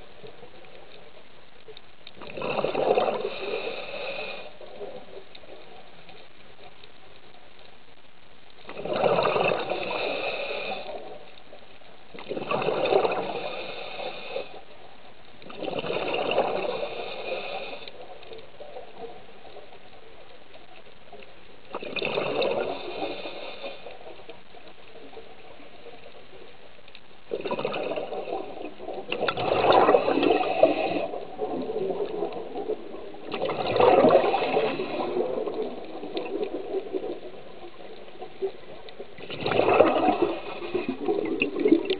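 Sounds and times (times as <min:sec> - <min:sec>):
scuba regulator bubbles underwater: 0:00.0 - 0:07.7, 0:08.4 - 0:41.9
faint steady hiss: 0:00.0 - 0:41.9.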